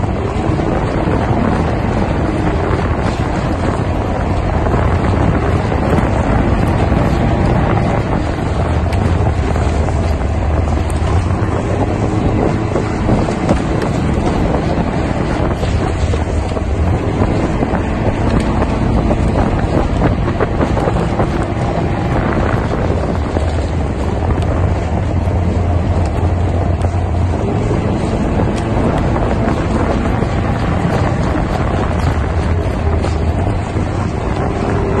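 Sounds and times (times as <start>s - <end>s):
steady low rumble: 0.0s - 35.0s
wind buffeting the microphone: 0.0s - 35.0s.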